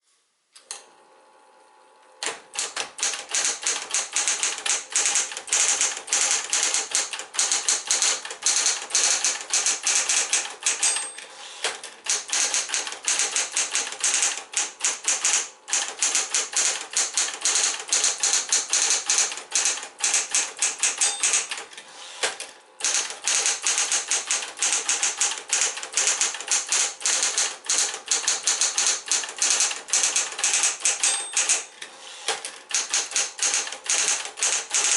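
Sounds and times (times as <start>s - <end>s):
rapid typewriter keystrokes: 2.2s - 31.7s, 32.3s - 34.9s
typewriter motor hum: 2.2s - 34.9s.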